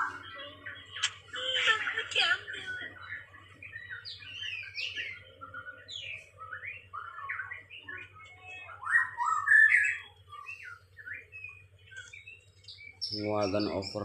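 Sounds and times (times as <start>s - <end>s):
songbird chirping and squawking: 0.0s - 14.0s
steady low hum: 0.0s - 14.0s.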